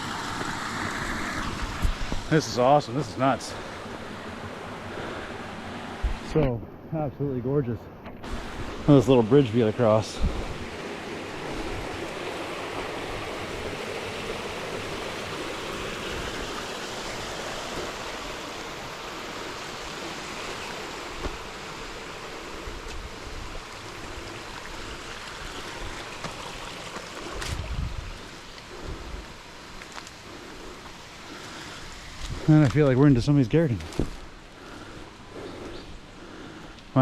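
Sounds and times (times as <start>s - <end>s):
waterfall rushing water: 0.0s - 6.1s, 8.2s - 34.5s.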